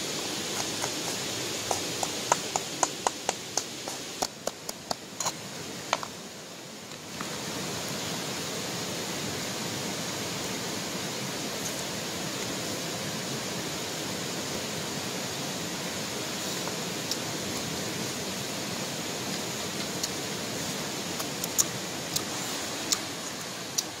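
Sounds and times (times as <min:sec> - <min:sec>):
steady rushing hiss: 0:00.0 - 0:24.0.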